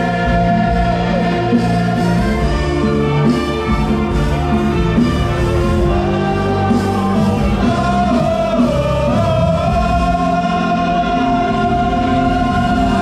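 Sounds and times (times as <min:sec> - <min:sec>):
gospel song with band: 0:00.0 - 0:13.0
singer holding long note: 0:00.0 - 0:13.0.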